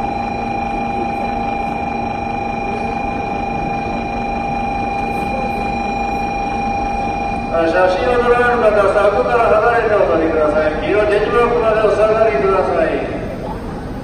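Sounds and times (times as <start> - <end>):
constant high tones: 0.0 - 14.0
station hum and hiss: 0.0 - 14.0.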